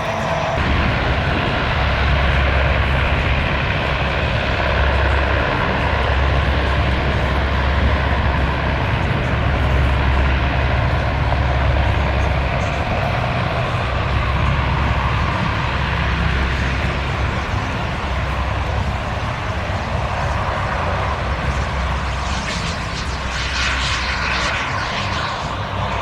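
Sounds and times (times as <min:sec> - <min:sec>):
military aircraft engines roaring: 0:00.0 - 0:26.0.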